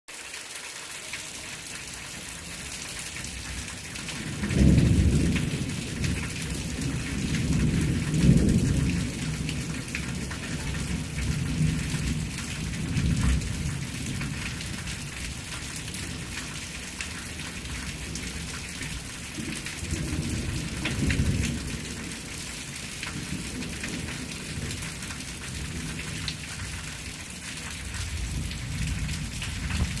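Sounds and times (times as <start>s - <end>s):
steady rain: 0.1s - 30.0s
low rolls of thunder: 3.4s - 26.8s, 27.7s - 30.0s.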